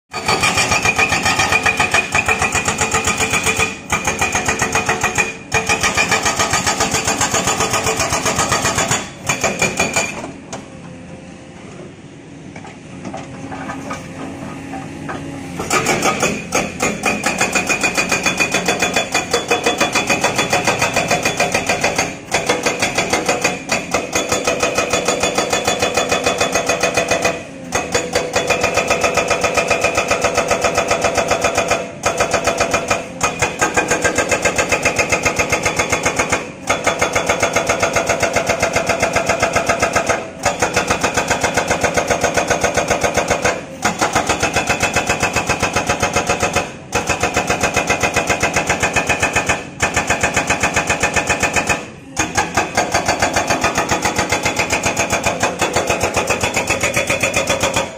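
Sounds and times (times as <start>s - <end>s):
hydraulic breaker hammering rock: 0.1s - 10.6s, 13.1s - 57.9s
excavator engine: 0.1s - 57.9s.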